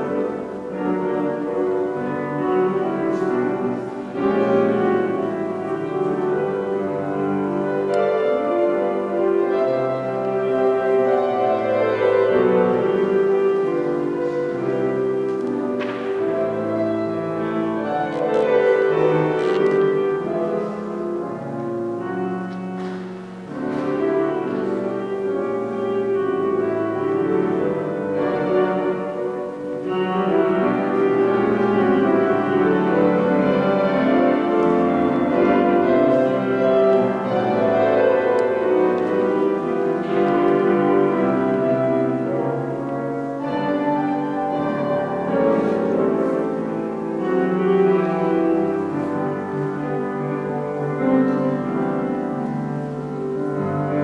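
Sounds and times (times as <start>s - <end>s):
classical keyboard chords: 0.0s - 54.0s.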